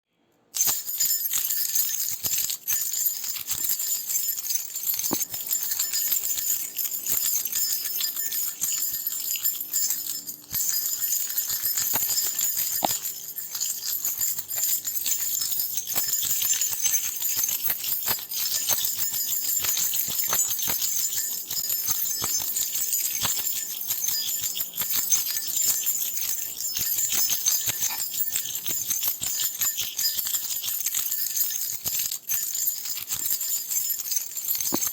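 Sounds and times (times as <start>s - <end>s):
metal keys jingling: 0.6s - 34.9s.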